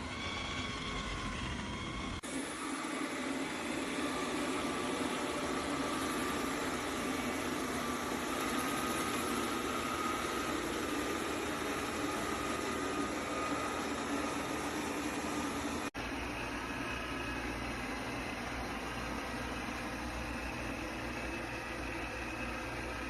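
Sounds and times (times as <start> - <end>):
robot vacuum running: 0.0 - 23.0.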